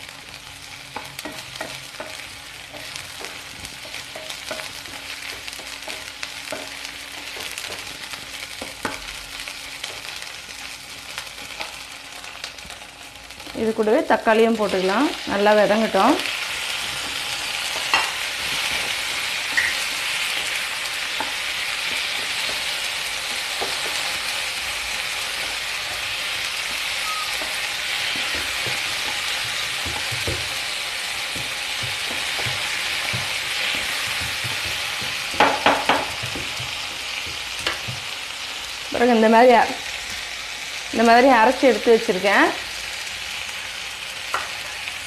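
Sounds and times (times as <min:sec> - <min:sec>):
vegetables sizzling in hot oil: 0:00.0 - 0:45.0.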